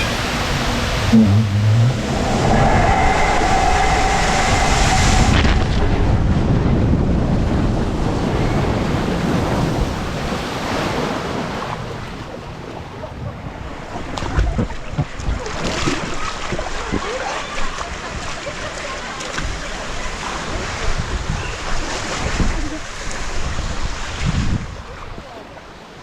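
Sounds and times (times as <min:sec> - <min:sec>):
water rushing on waterslide: 0:00.0 - 0:26.0.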